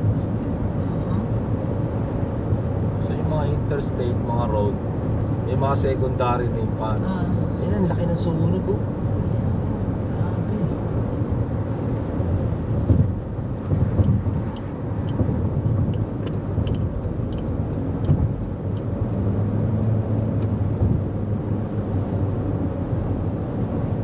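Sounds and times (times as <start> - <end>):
tyre and road noise rumble: 0.0 - 24.0.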